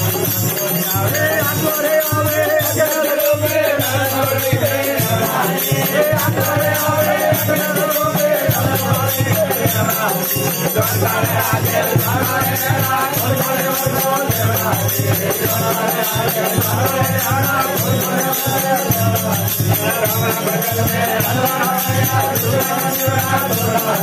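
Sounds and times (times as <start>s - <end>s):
hand cymbals jingling: 0.0s - 24.0s
harmonium: 0.0s - 24.0s
man singing: 0.0s - 24.0s.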